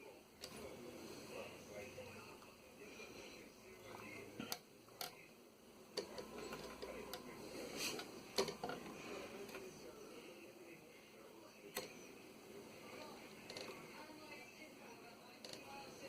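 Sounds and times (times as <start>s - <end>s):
faint room noise: 0.0s - 16.0s.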